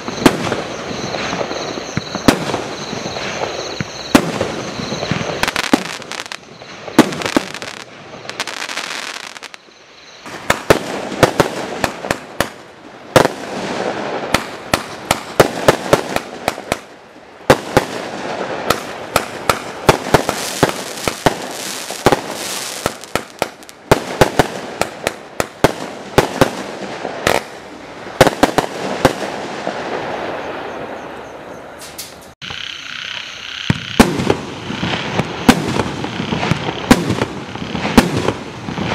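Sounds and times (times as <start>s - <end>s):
fireworks launching and bursting: 0.0s - 31.2s, 31.9s - 38.9s.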